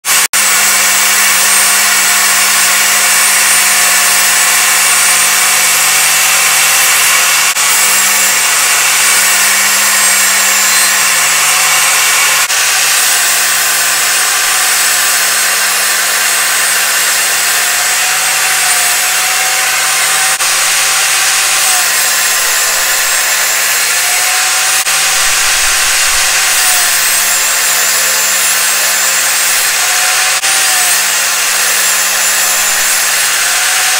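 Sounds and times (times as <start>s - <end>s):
table saw running: 0.0s - 33.9s.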